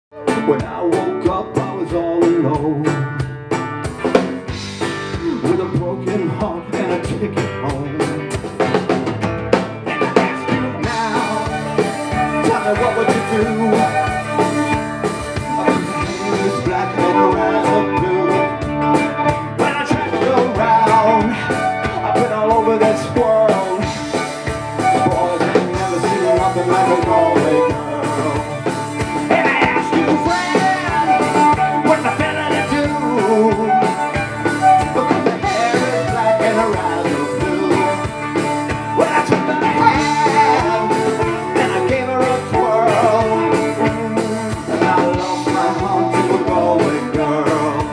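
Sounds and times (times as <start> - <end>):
acoustic guitar: 0.1 - 47.9
drum kit: 0.1 - 47.9
second guitar: 0.1 - 47.9
fiddle: 7.7 - 47.9.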